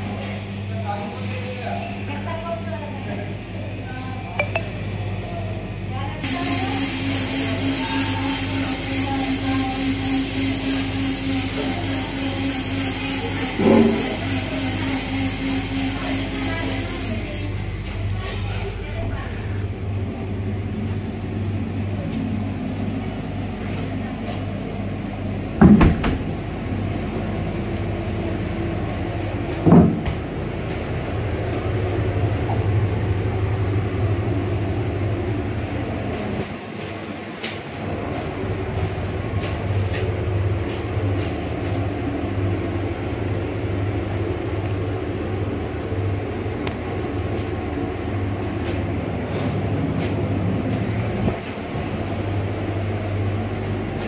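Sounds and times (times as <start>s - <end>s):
cooler fan droning: 0.0s - 54.0s.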